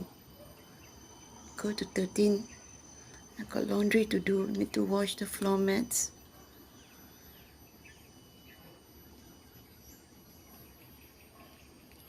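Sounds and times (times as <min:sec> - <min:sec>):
high-pitched tones: 0:00.8 - 0:10.6.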